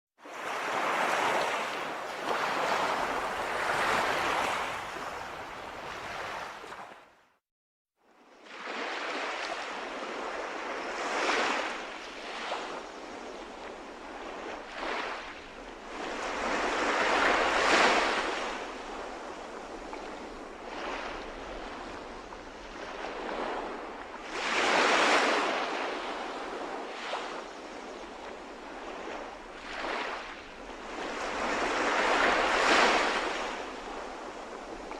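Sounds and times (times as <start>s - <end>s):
sea waves washing in: 0.2s - 7.1s, 8.4s - 34.9s.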